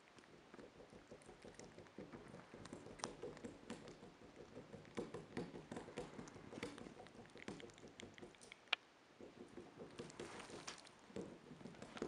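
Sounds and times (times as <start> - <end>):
porcupine gnawing pumpkin: 0.0 - 12.0.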